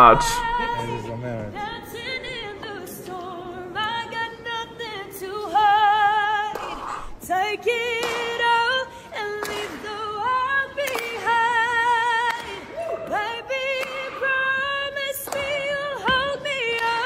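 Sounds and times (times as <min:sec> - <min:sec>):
woman singing a cappella: 0:00.0 - 0:17.0.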